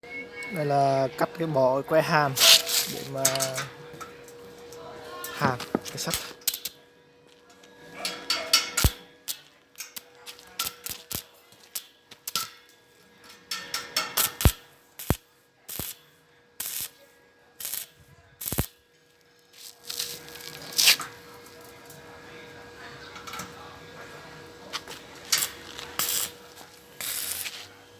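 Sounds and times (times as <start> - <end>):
welding arc crackling: 0.5 - 4.4, 5.2 - 6.8, 8.3 - 12.8, 13.4 - 16.0, 16.6 - 17.0, 17.6 - 18.8, 19.4 - 27.8.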